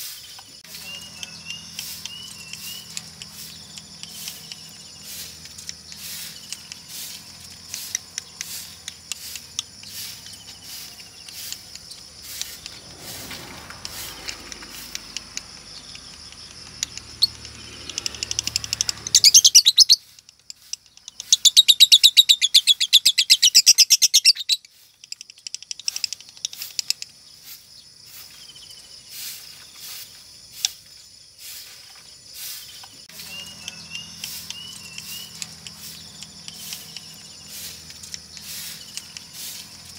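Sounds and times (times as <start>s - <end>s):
high background chirping: 0.0s - 39.9s
lovebird rattling chatter trills: 0.0s - 39.9s.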